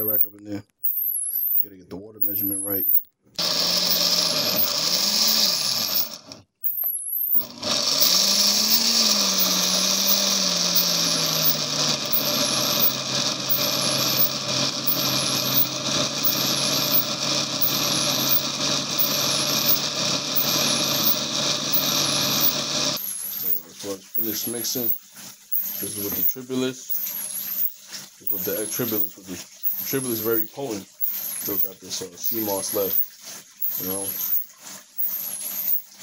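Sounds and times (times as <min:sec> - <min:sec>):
blender motor running: 0:03.4 - 0:36.0.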